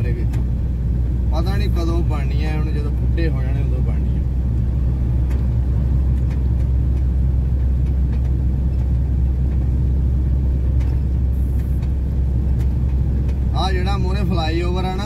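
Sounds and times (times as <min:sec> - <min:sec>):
heavy truck engine drone: 0:00.0 - 0:15.0
road noise: 0:00.0 - 0:15.0.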